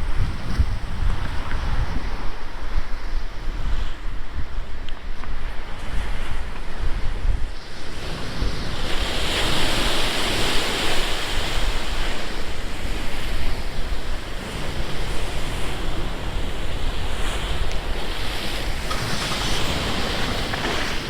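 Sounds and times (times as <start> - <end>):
surf washing against a seawall: 0.0 - 21.0
wind rumble on microphone: 0.0 - 21.0.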